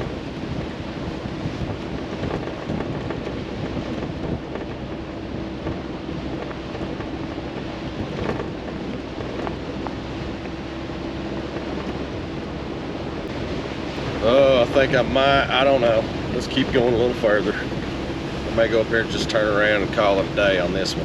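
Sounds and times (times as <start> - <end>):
pickup engine and tyres rumbling: 0.0 - 21.0.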